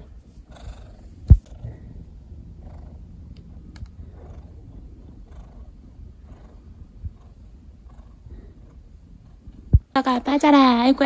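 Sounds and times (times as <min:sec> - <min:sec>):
cat purring: 0:00.0 - 0:10.8.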